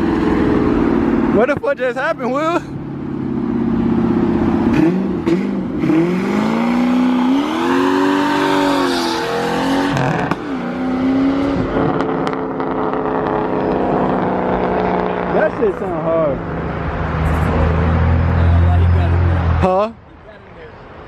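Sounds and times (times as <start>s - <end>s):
car engine revving: 0.0s - 19.7s.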